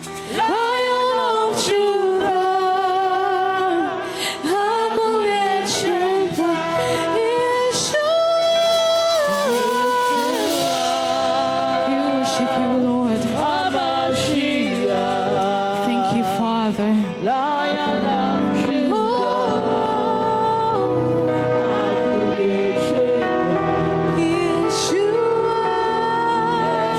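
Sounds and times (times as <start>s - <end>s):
worship music: 0.0s - 26.9s.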